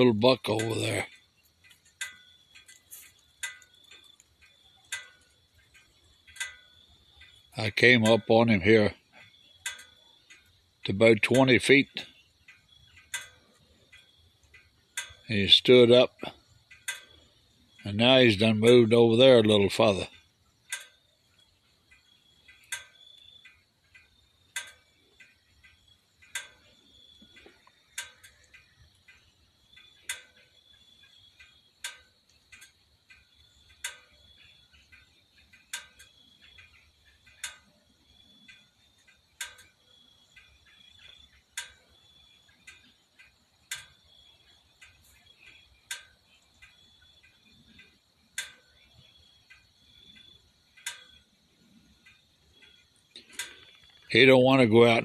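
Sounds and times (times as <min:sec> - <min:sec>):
faint clicks: 0:00.0 - 0:18.8, 0:19.4 - 0:55.0
faint sharp ticks: 0:00.0 - 0:55.0.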